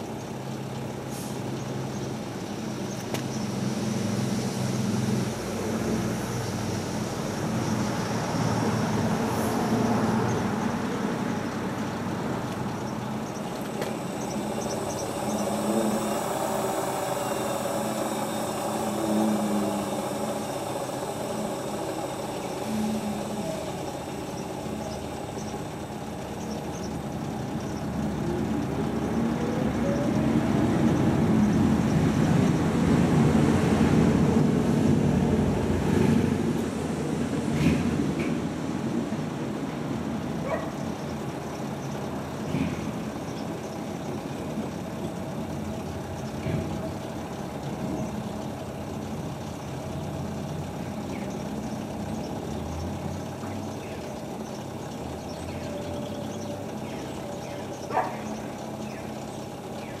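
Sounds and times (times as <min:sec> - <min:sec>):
rising mechanical whine: 0:00.0 - 1:00.0
washing machine humming and churning: 0:00.0 - 1:00.0.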